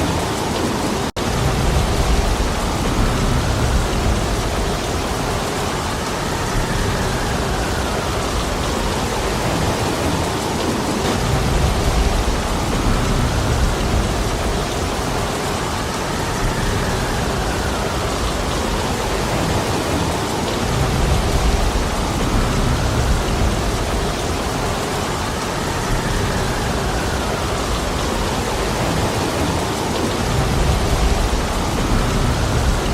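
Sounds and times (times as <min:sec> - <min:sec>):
heavy rain falling: 0:00.0 - 0:32.9
wind rumble: 0:00.0 - 0:32.9.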